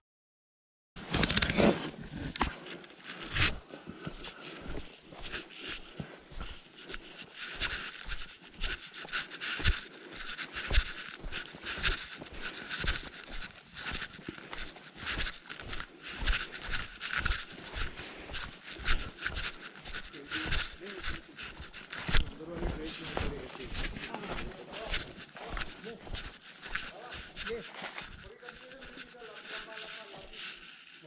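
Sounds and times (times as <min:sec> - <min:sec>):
footsteps crunching dry leaves: 0:02.6 - 0:31.0.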